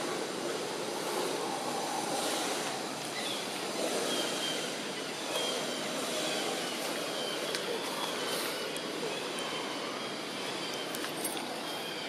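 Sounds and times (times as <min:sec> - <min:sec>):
rushing background noise: 0:00.0 - 0:12.0.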